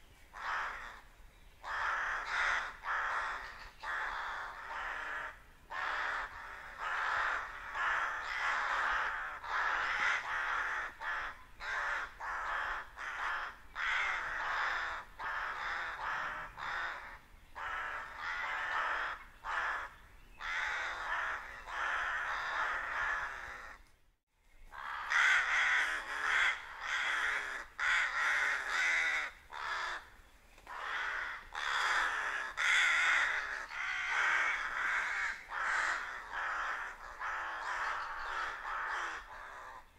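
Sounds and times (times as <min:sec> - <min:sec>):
rooks cawing: 0:00.3 - 0:23.9, 0:24.7 - 0:39.9.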